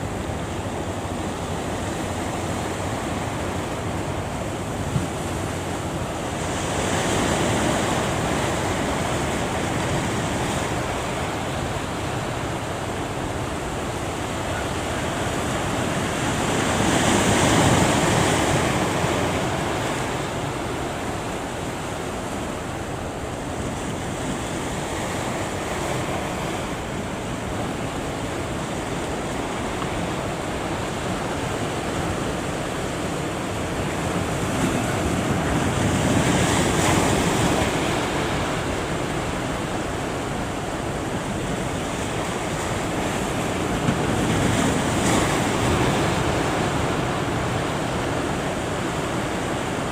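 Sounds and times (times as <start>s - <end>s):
heavy surf breaking: 0.0s - 49.9s.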